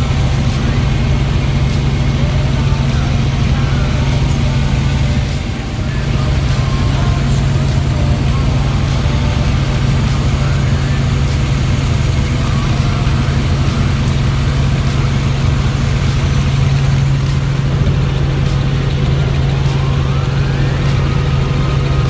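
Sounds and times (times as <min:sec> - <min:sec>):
helicopter engine and rotor drone: 0:00.0 - 0:22.0.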